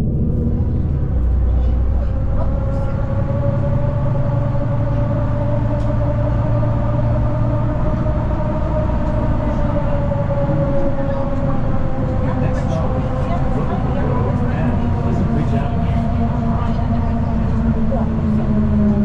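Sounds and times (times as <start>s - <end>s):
bus engine and road rumble: 0.0s - 19.0s
drivetrain whine: 0.0s - 19.0s.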